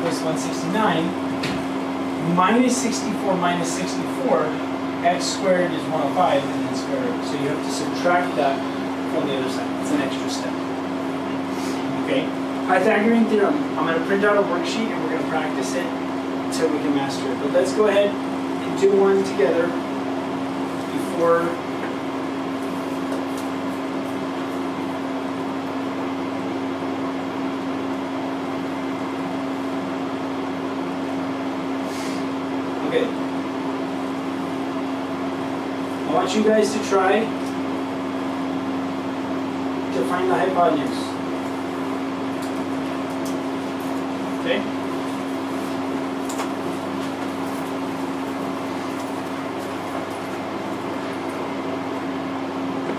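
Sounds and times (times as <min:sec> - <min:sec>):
room tone hum and hiss: 0:00.0 - 0:52.9.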